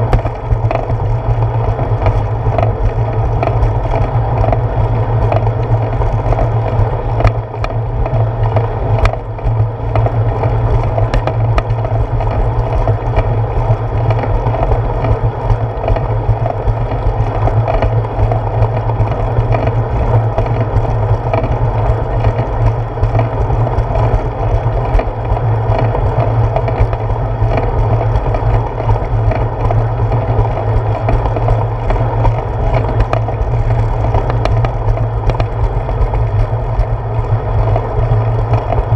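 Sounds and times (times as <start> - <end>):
bicycle tyre rumble on concrete: 0.0 - 38.9.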